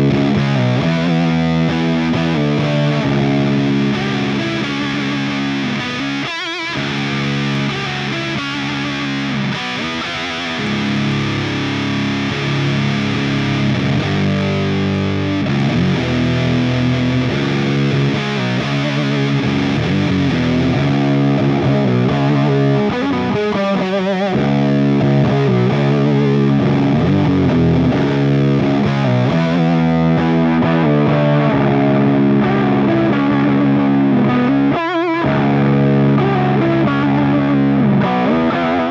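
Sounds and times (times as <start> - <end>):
fuzzed electric guitar chords: 0.0 - 38.9.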